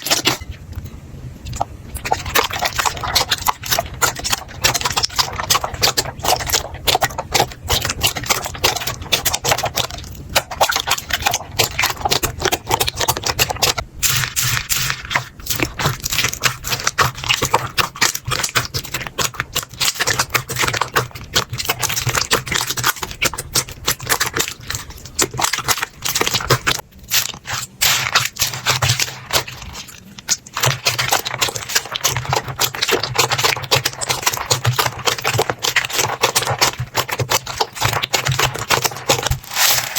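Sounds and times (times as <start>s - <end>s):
slime crackling and popping: 1.5s - 39.9s.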